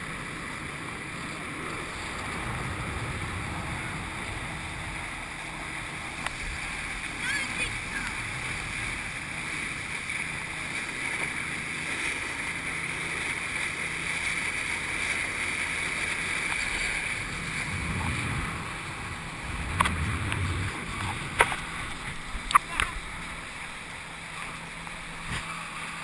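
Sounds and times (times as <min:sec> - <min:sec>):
motorboat engine and wake: 0:00.0 - 0:26.0.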